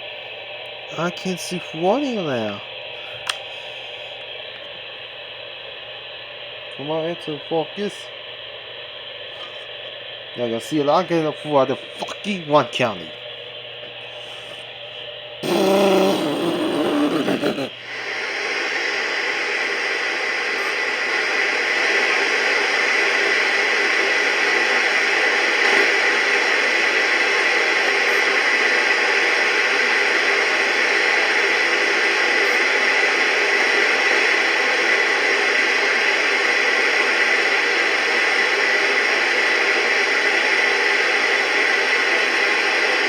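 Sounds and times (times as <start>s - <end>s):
radio static hiss: 0.9s - 5.0s, 6.8s - 8.2s, 9.2s - 43.0s.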